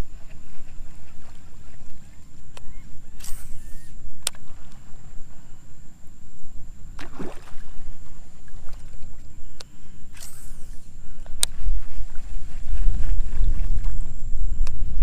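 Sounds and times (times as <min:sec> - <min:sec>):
water and wind rumble: 0:00.0 - 0:15.0.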